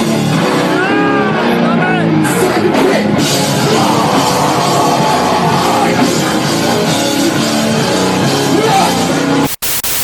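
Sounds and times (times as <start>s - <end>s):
loud heavy metal music: 0.0s - 10.0s.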